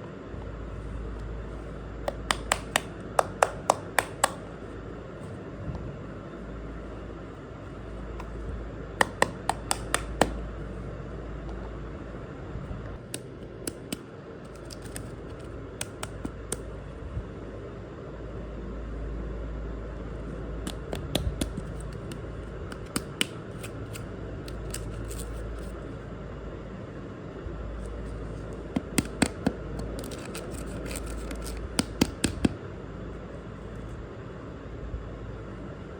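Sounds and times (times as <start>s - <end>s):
low background hum: 0.0s - 35.9s.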